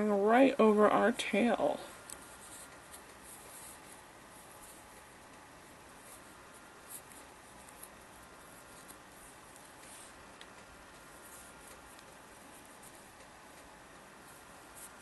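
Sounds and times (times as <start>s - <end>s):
steady background hiss: 0.0s - 15.0s
yarn rustling over crochet hook: 0.6s - 15.0s.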